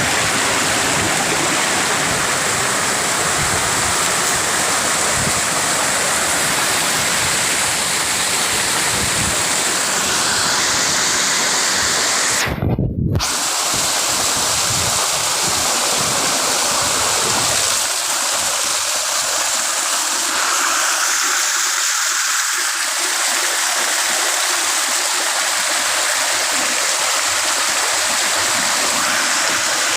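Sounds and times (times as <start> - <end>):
rushing flowing water: 0.0 - 12.6, 13.2 - 29.9.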